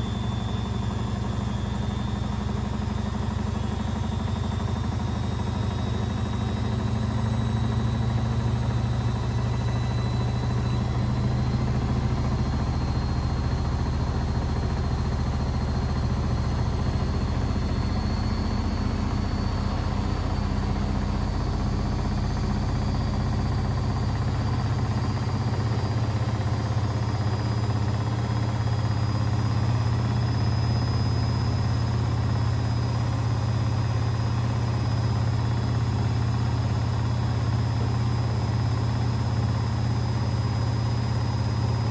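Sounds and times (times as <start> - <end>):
high motor whine rising in pitch: 0.0 - 41.9
washing machine running: 0.0 - 41.9.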